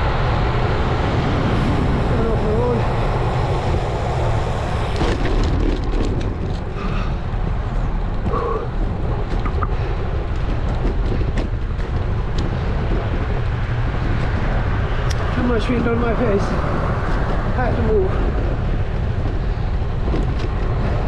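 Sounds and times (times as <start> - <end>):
tyre and road noise: 0.0 - 21.0
wind rumble on microphone: 0.0 - 21.0.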